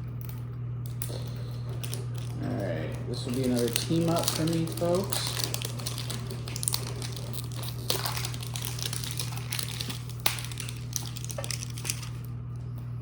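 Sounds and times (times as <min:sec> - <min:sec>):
steady low hum: 0:00.0 - 0:13.0
cards clicking: 0:00.9 - 0:12.3
foil wrapper crinkling: 0:01.0 - 0:12.5.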